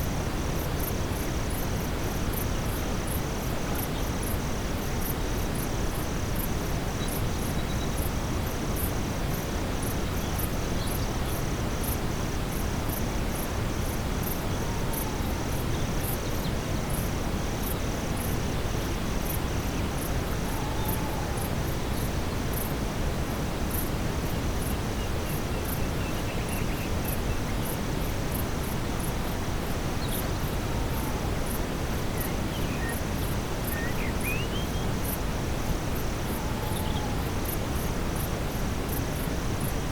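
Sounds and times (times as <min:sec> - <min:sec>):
night insects chirping: 0:00.0 - 0:39.9.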